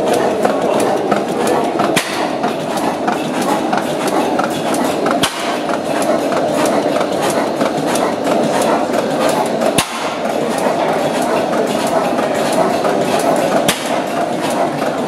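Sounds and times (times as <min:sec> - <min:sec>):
loud engine knocks: 0:00.0 - 0:15.0
oil engine clattering: 0:00.0 - 0:15.0.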